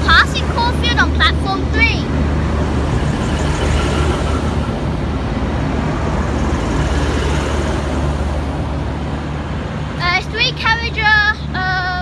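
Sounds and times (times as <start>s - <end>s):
diesel railcar engines droning: 0.0s - 12.0s.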